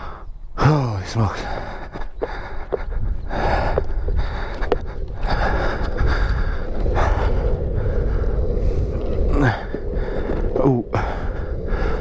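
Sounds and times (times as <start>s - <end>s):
heavy winded breathing: 0.0s - 0.4s, 1.2s - 12.0s
longboard wheels rolling on pavement: 1.4s - 12.0s.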